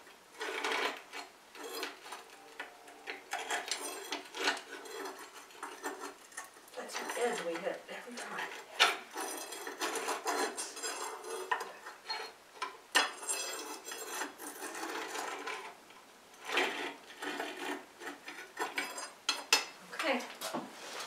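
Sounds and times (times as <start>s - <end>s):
metal tool scraping brick floor: 0.0s - 19.6s
pans clinking: 1.6s - 15.7s, 16.4s - 19.8s.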